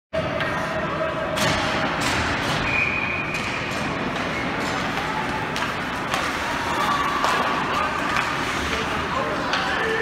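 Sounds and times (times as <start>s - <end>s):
ice rink noise: 0.2s - 10.0s.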